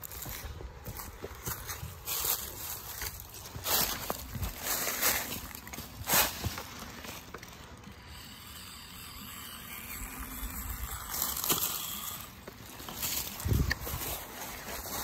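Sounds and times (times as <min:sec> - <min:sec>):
dry leaves rustling: 0:00.0 - 0:15.0
small electric motor running: 0:01.6 - 0:15.0.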